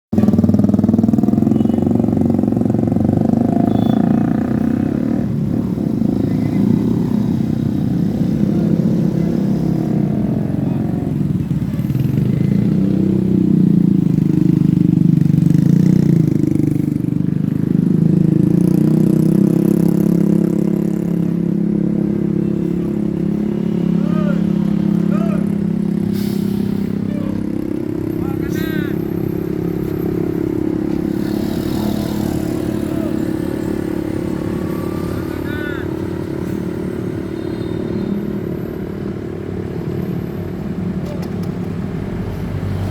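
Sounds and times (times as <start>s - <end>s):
bus engine rumbling: 0.1s - 42.9s.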